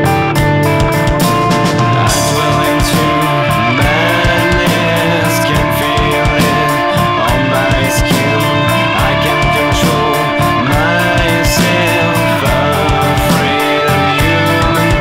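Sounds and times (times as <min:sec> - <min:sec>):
rock music with slide guitar: 0:00.0 - 0:15.0
steady drum beat: 0:00.0 - 0:15.0.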